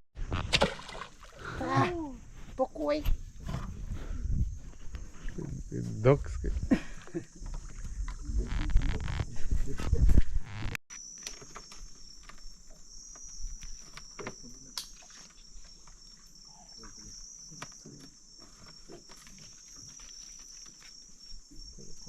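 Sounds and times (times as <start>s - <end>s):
insects chirring: 0.3s - 22.0s.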